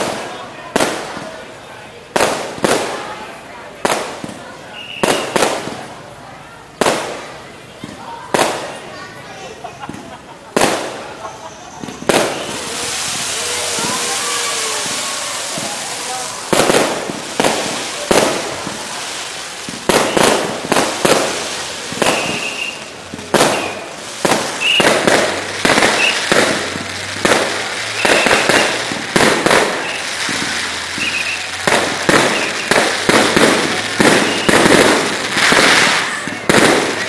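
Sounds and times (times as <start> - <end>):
fireworks bursting with bangs: 0.0 - 37.0.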